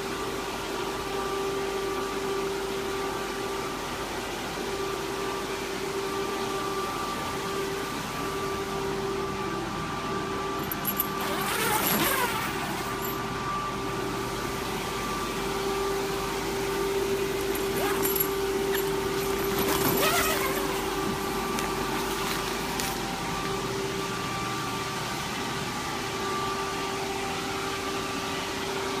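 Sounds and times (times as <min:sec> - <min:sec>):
inflation blower whirring: 0:00.1 - 0:29.0.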